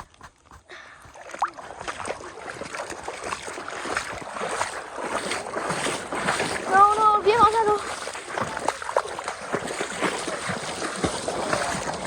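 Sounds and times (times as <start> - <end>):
water splashing in river: 0.0 - 12.0.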